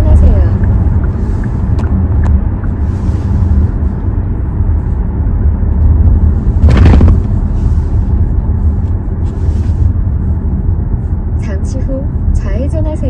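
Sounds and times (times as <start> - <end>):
car engine and road noise: 0.0 - 13.0
rush of noise: 0.0 - 13.0.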